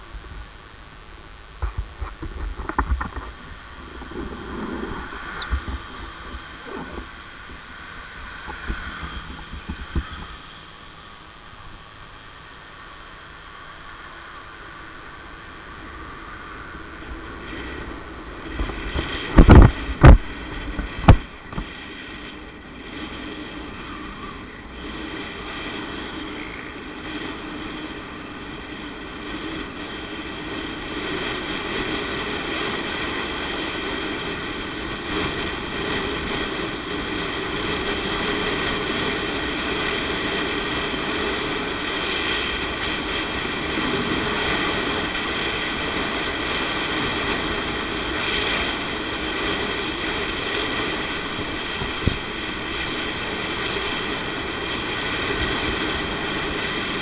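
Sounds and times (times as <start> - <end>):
motorcycle engine hum: 0.0 - 57.0
road and wind noise: 0.0 - 57.0.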